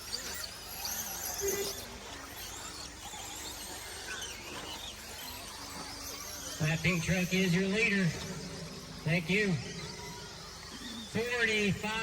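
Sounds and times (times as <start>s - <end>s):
rc truck motors whining: 0.0s - 12.0s.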